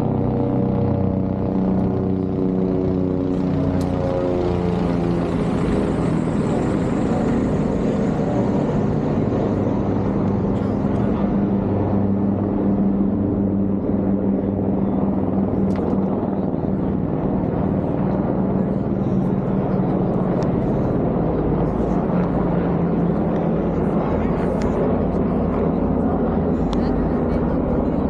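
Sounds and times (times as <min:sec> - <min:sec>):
constant rushing noise: 0:00.0 - 0:28.0
ferry engine drone: 0:00.0 - 0:28.0.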